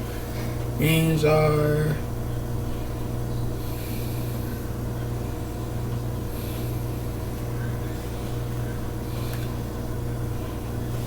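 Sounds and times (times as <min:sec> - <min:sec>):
low appliance hum: 0:00.0 - 0:11.0.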